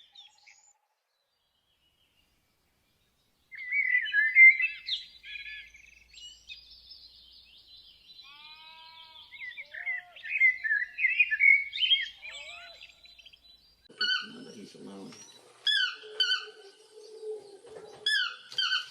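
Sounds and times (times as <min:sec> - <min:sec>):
bird chirps and warbles: 0:00.0 - 0:18.9.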